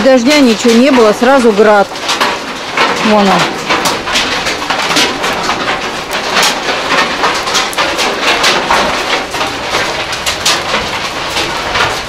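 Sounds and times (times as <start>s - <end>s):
hailstones clattering: 0.0s - 12.0s.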